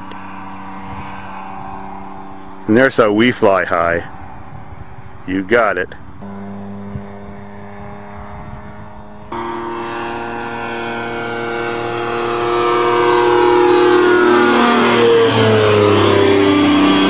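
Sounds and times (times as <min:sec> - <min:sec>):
light airplane engine: 0:00.0 - 0:17.0.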